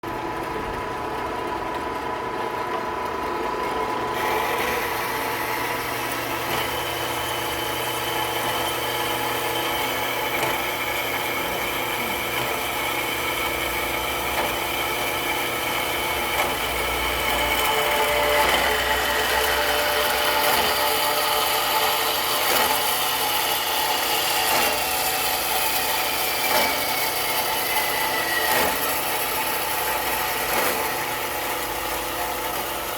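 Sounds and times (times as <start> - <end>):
bandsaw motor humming: 0.1 - 32.9.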